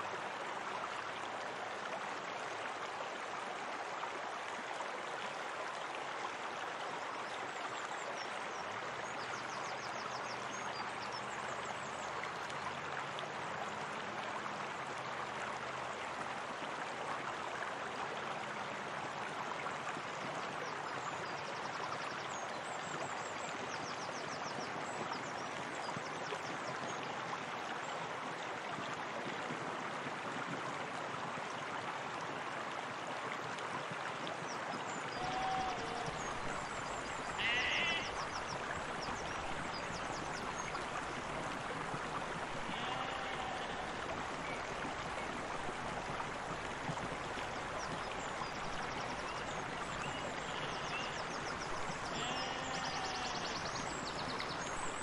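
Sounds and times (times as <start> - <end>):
running water: 0.0 - 55.0.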